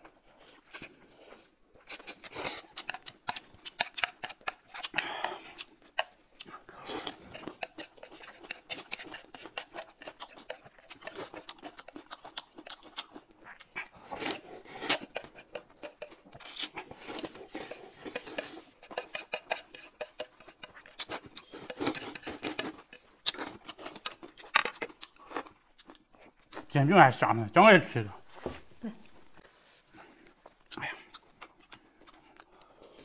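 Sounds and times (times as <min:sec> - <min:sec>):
noodles slurped and chewed: 0:00.0 - 0:26.8, 0:29.0 - 0:33.0.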